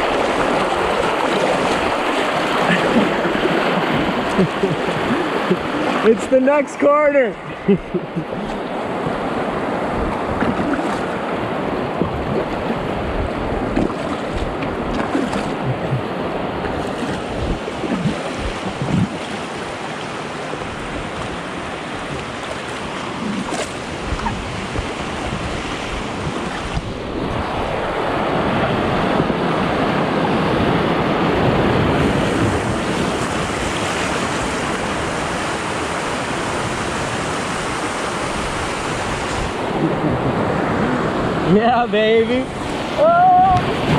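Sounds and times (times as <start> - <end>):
river rapids rushing: 0.0 - 43.9.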